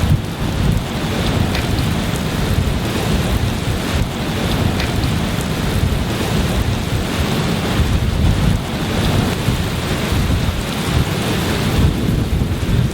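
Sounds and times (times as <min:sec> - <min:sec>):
heavy rain: 0:00.0 - 0:12.9
storm wind: 0:00.0 - 0:12.9.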